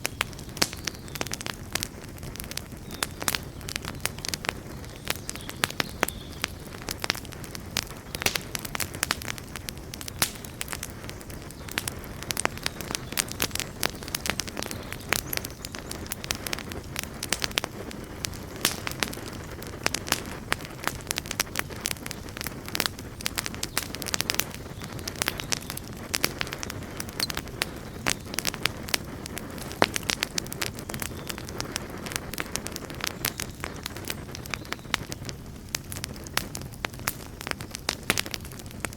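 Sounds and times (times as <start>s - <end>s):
campfire crackling and popping: 0.0s - 38.9s
low rumble of flame: 0.0s - 38.9s.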